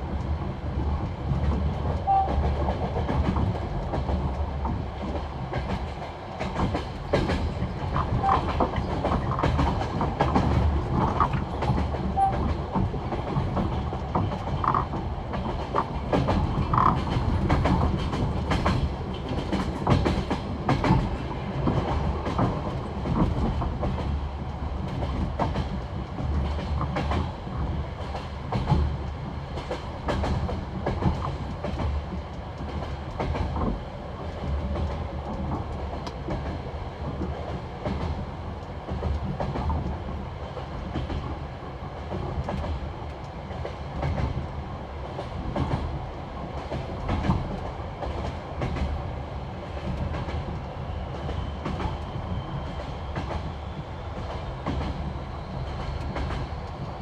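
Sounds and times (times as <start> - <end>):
train wheels clattering on rail joints: 0.0 - 57.0.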